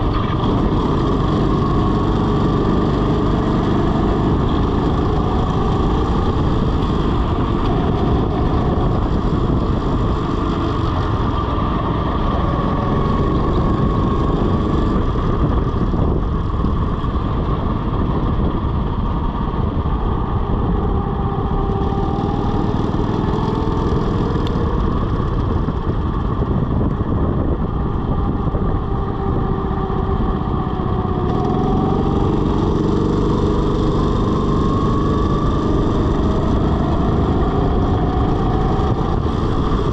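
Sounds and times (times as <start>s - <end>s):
go-kart engine running: 0.0s - 39.9s
wind and chassis rumble: 0.0s - 39.9s.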